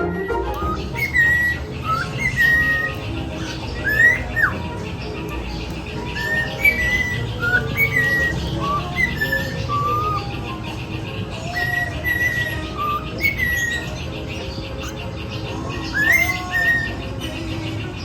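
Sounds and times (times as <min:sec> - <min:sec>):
cockatiels whistling and chirping: 0:00.0 - 0:17.4.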